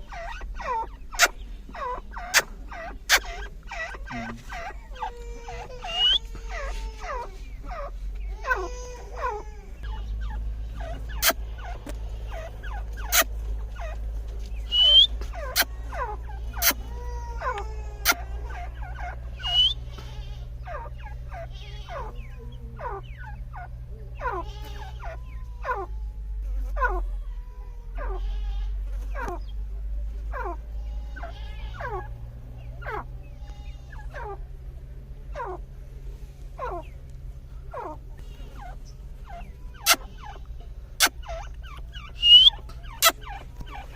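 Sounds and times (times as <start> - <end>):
francolins calling: 0.0 - 43.9.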